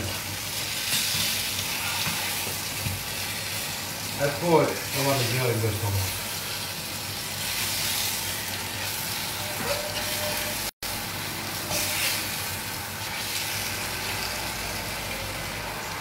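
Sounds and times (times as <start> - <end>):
fish sizzling in frying pan: 0.0 - 16.0.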